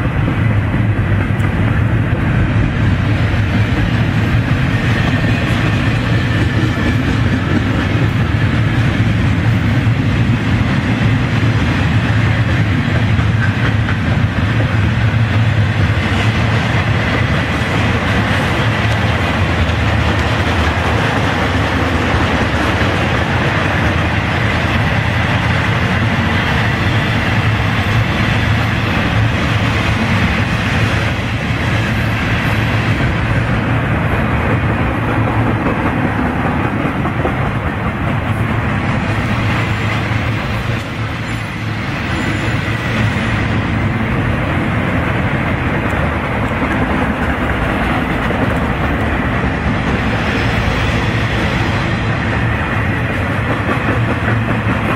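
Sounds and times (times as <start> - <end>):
steel train wheels on rails: 0.0 - 54.9.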